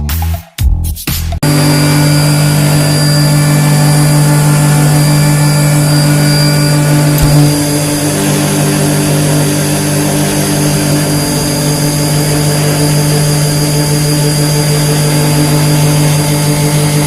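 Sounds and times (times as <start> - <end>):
faint high whine: 1.4 - 17.0
machine humming: 1.4 - 17.0.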